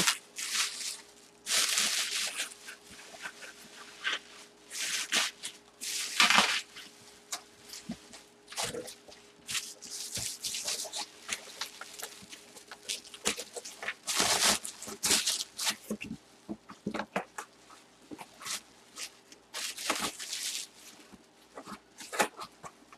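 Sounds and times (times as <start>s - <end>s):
bubble wrap crinkling: 0.0s - 16.2s, 18.3s - 22.5s
faint steady hum: 0.0s - 22.9s.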